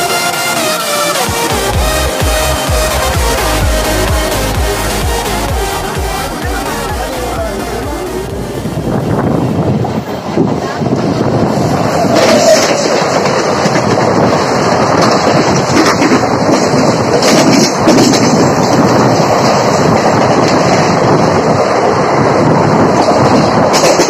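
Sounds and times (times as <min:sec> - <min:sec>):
train passing alongside: 0:00.0 - 0:24.0
train rushing and rattling: 0:00.0 - 0:24.0.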